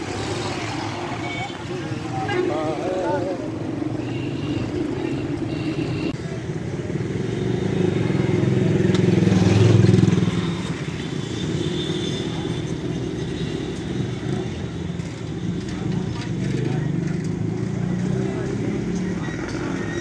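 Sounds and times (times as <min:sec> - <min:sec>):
steady traffic noise: 0:00.0 - 0:20.0.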